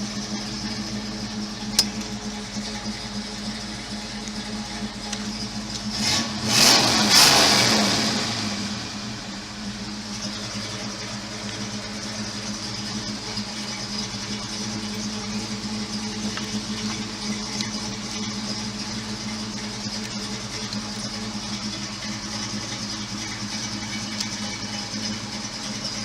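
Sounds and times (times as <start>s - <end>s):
car engine running steadily: 0.0s - 26.0s.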